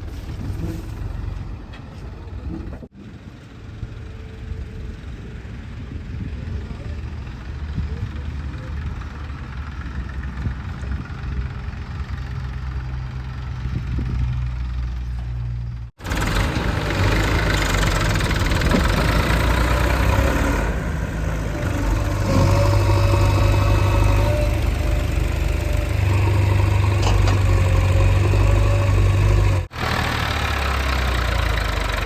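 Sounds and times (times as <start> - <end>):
backhoe diesel engine running: 0.0 - 32.0.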